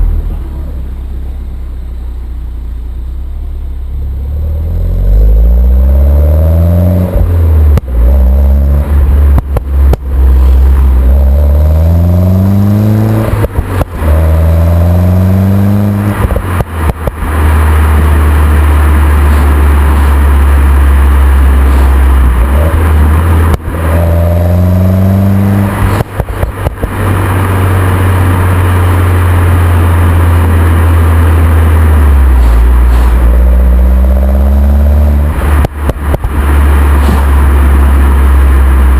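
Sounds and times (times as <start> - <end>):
car engine accelerating hard: 0.0 - 38.9
exhaust popping and crackling: 0.0 - 38.9.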